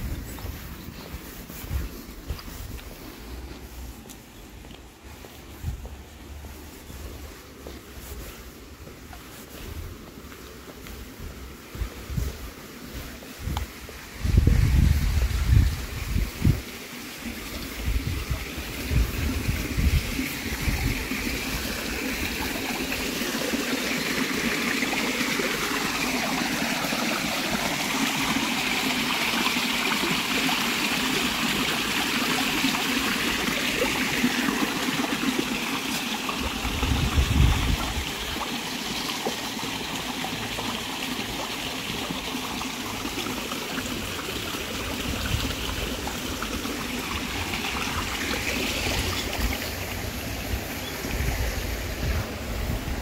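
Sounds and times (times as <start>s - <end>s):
running water: 0.0s - 53.0s.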